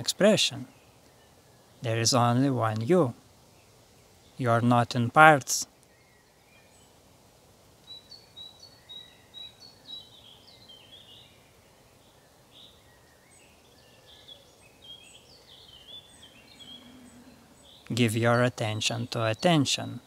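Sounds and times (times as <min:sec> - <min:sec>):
birds chirping: 0:00.0 - 0:20.0
soft outdoor hiss: 0:00.0 - 0:20.0.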